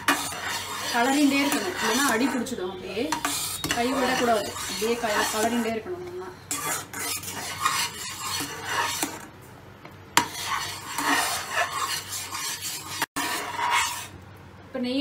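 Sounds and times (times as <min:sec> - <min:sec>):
spatula scraping saucepan: 0:00.0 - 0:09.3, 0:10.2 - 0:14.2.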